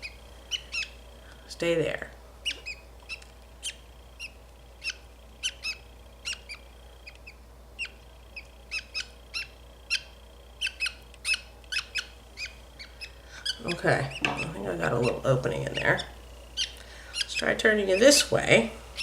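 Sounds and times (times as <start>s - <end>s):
bird chick chirping: 0.0s - 1.2s, 2.4s - 19.0s.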